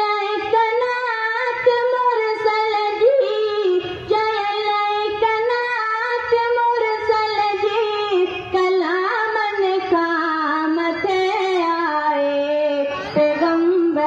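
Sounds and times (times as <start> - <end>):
boy singing solo: 0.1 - 14.0.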